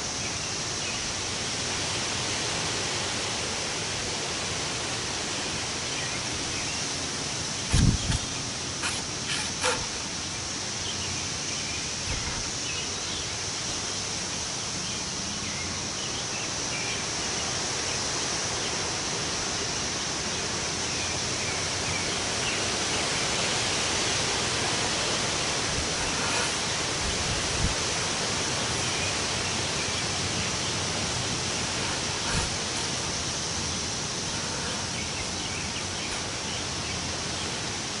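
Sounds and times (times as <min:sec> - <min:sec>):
wind rushing through trees: 0:00.0 - 0:38.0.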